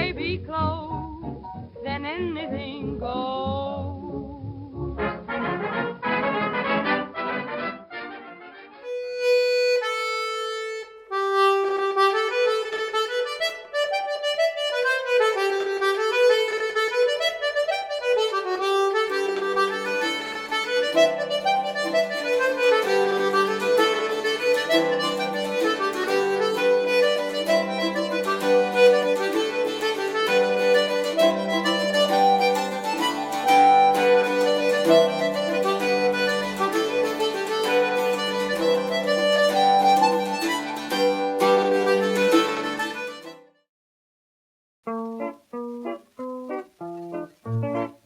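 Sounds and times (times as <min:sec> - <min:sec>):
bass accompaniment: 0:00.0 - 0:08.2, 0:08.8 - 0:43.4, 0:44.9 - 0:48.0
accordion melody: 0:00.0 - 0:43.7, 0:44.9 - 0:48.0.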